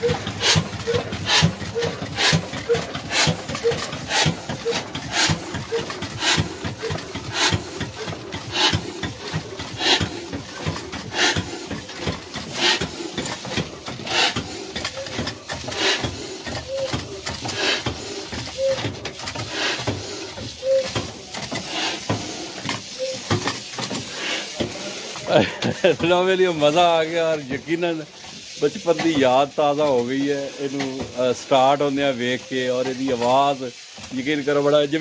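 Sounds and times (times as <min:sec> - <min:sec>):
diesel engine knocking: 0:00.0 - 0:35.0.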